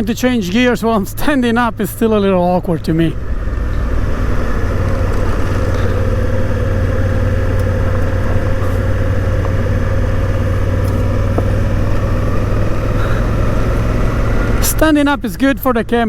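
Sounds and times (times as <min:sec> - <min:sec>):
motorcycle engine humming: 0:00.0 - 0:16.0.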